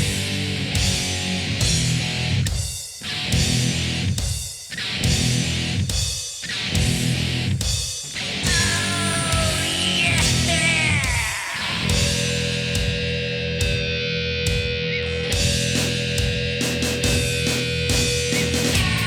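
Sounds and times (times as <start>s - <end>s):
distorted electric guitar: 0.0s - 19.0s
drums: 0.0s - 19.0s.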